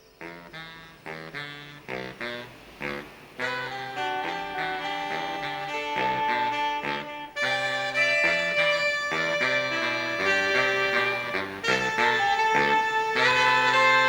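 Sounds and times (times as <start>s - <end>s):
jazzy saxophones and brass: 0.0s - 14.0s.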